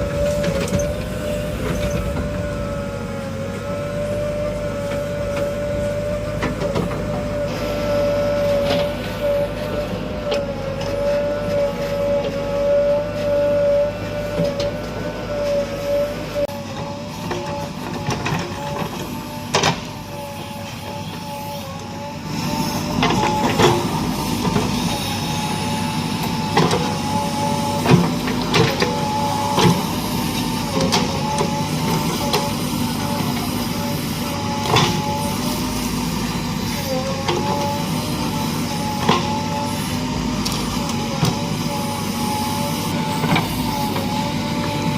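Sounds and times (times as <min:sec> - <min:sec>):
diesel engine under load: 0:00.0 - 0:44.9
hydraulic whine: 0:00.0 - 0:44.9.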